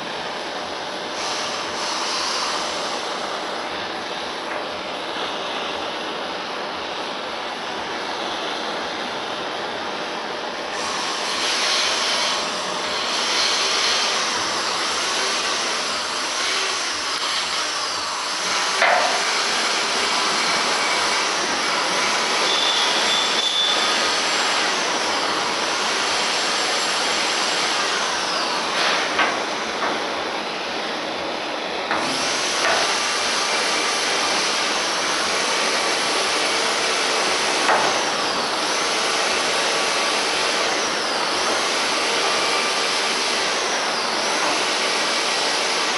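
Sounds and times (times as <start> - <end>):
rushing noise on metal bodywork: 0.0 - 45.9.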